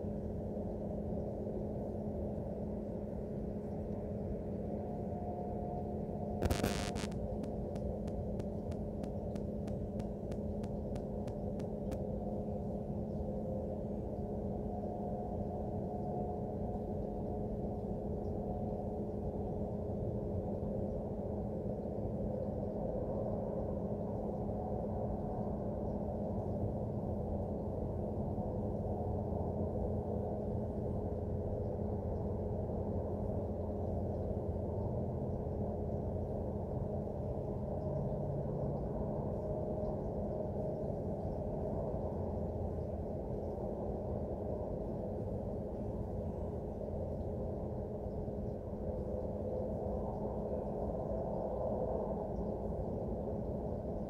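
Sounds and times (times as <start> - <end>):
steady humming tones: 0.0 - 54.0.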